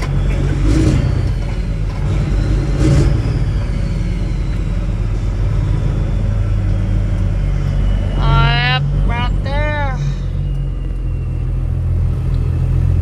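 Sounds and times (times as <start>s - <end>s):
faint high whine: 0.0s - 12.9s
diesel truck engine droning: 0.0s - 13.0s.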